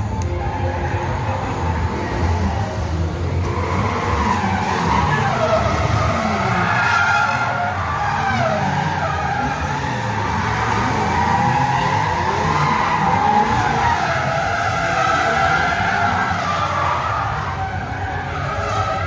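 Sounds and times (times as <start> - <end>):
car engines revving: 0.0 - 19.0
tyres skidding and squealing: 0.0 - 19.0.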